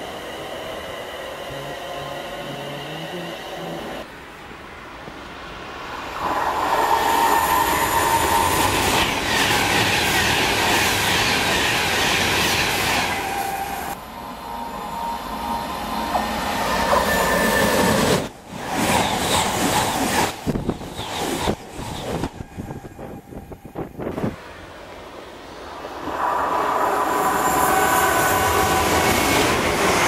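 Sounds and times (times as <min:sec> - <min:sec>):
electric train rushing past: 0:00.0 - 0:30.0.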